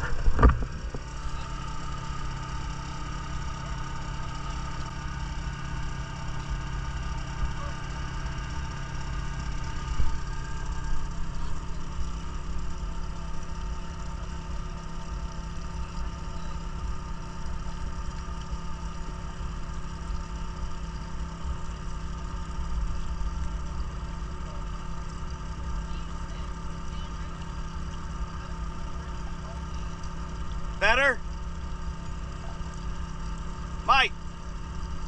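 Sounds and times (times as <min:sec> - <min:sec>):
air compressor engine running: 0:00.0 - 0:35.0.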